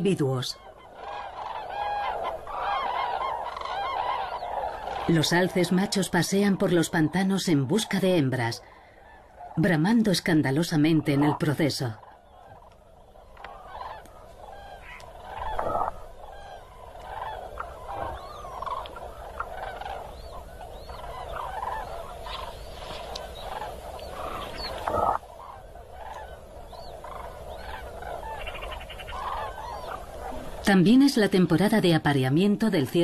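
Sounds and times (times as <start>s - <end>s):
flock of cranes calling: 0.0s - 33.0s.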